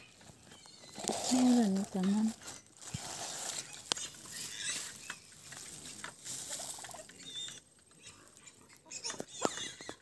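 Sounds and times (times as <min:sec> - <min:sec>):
dry grass rustling and crackling: 0:00.0 - 0:10.0
fast rattling animal call: 0:00.2 - 0:10.0.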